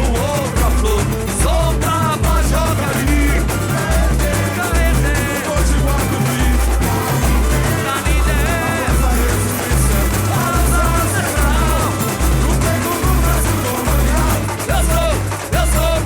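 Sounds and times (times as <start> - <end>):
percussion: 0.0 - 16.0
sung and played melody: 0.0 - 16.0
surdo bass drum beats: 0.0 - 16.0.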